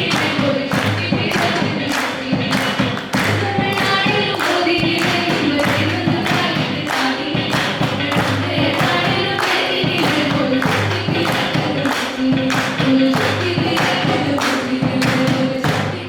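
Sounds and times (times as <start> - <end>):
group singing: 0.0 - 16.0
percussion steady beat: 0.0 - 16.0.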